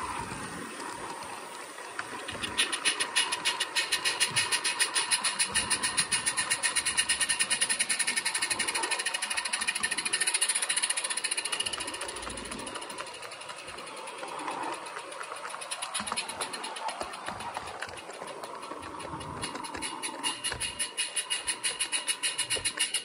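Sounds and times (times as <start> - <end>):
model steam locomotive chuffing: 2.5 - 23.0.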